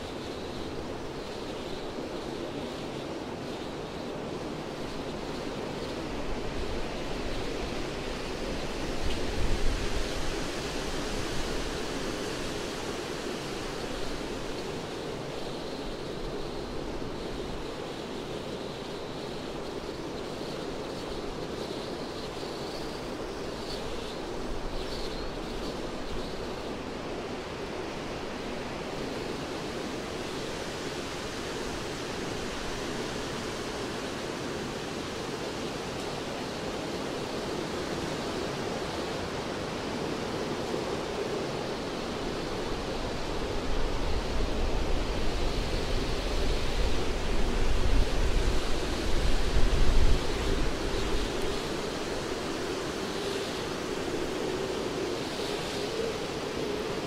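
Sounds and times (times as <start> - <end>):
wind through forest canopy: 0.0 - 57.0.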